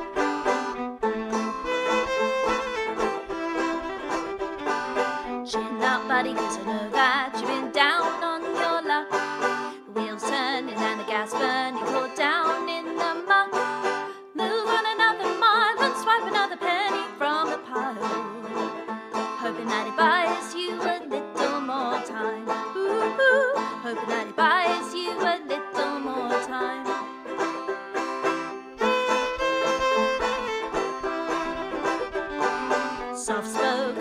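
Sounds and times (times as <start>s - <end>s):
folk song with banjo: 0.0s - 34.0s.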